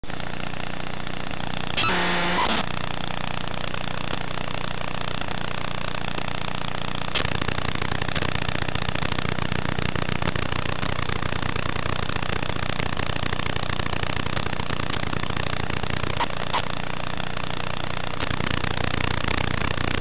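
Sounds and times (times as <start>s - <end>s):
electronic buzz: 0.0s - 20.0s.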